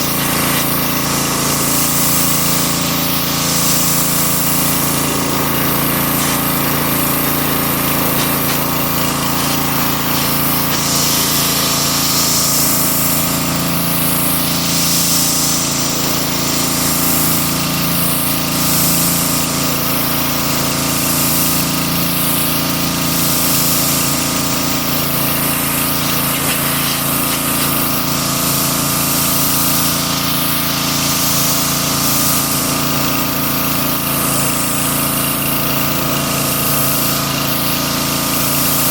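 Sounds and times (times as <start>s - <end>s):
hissing water spray: 0.0s - 38.9s
pressure washer pump humming: 0.0s - 38.9s.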